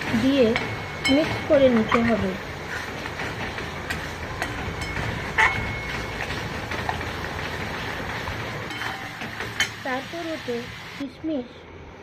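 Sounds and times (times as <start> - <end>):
spices sizzling in oil: 0.0 - 11.0.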